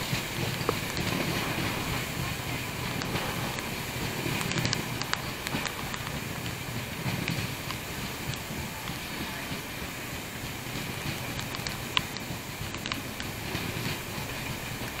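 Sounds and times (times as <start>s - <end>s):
train wheels rumbling on rail: 0.0s - 15.0s
wind buffeting microphone: 0.0s - 15.0s.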